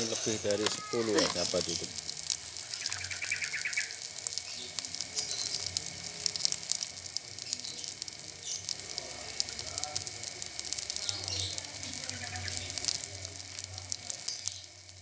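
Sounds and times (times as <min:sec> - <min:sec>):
batter sizzling in hot oil: 0:00.0 - 0:15.0.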